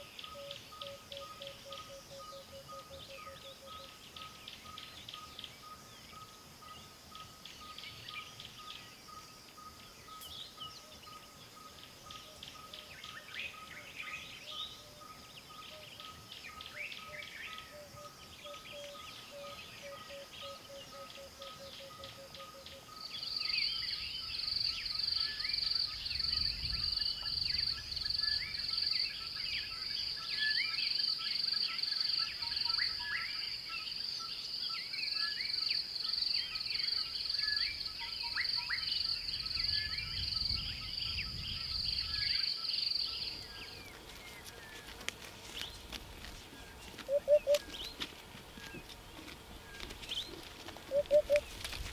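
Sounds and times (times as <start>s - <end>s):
wild birds chirping: 0.0s - 51.9s.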